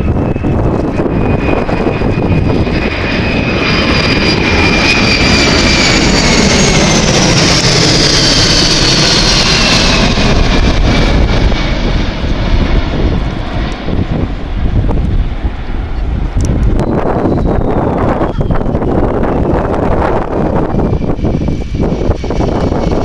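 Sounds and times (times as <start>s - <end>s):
jet aircraft roaring overhead: 0.0s - 23.0s.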